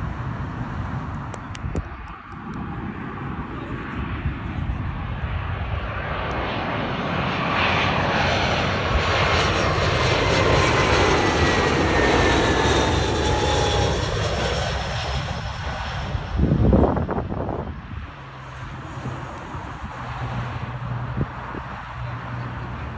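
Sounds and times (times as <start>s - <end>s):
jet airliner passing overhead: 0.0s - 22.9s.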